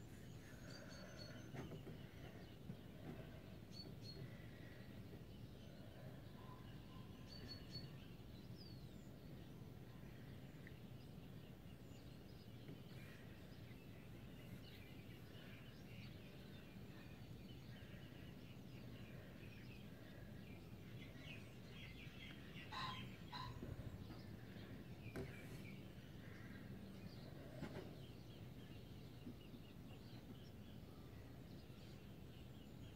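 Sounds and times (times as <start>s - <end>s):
faint bird chirps: 0.0s - 32.9s.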